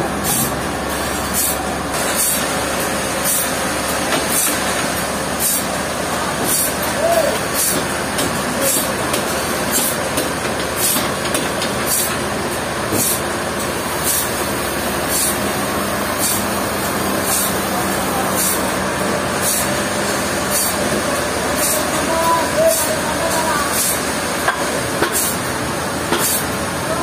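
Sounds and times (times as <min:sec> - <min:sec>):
sawmill machinery running: 0:00.0 - 0:27.0.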